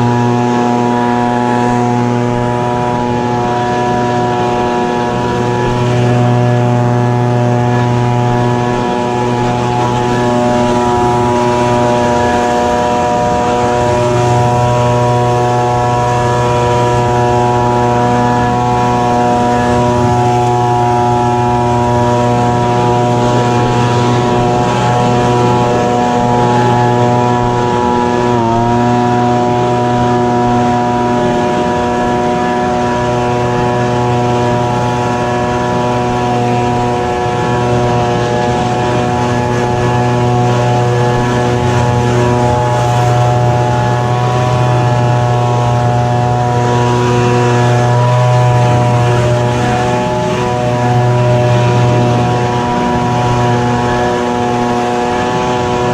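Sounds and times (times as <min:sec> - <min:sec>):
leaf blower engine running: 0:00.0 - 0:55.9.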